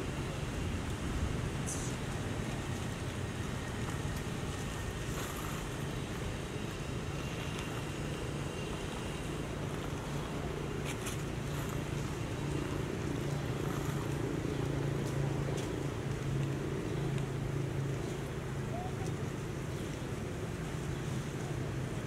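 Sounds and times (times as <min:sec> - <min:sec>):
low outdoor rumble: 0:00.0 - 0:22.0
faint crackles: 0:00.2 - 0:22.0.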